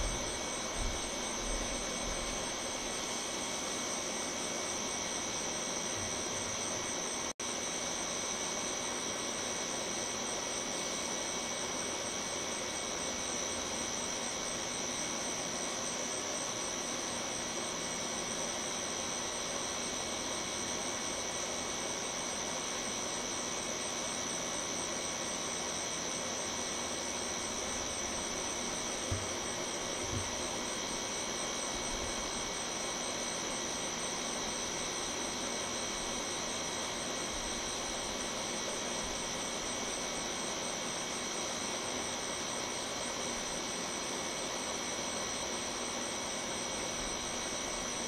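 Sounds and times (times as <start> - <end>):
constant high-pitched tone: 0.0 - 48.0.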